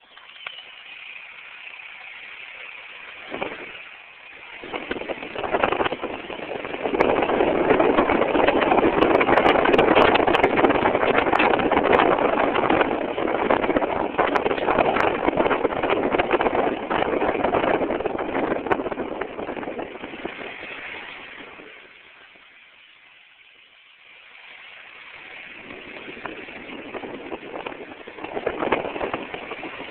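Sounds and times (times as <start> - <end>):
car engine running: 0.0 - 22.4, 24.0 - 29.9
rapid irregular engine ticking: 0.0 - 22.8, 23.4 - 29.9.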